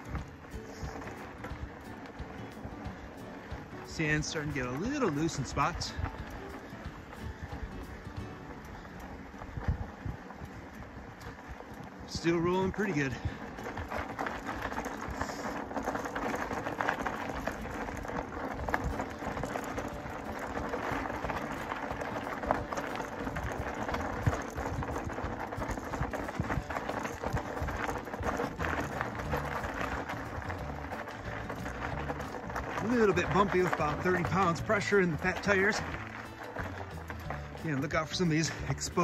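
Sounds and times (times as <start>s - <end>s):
bike tyres rolling on gravel: 0.0s - 39.0s
stones clicking under tyres: 0.0s - 39.0s.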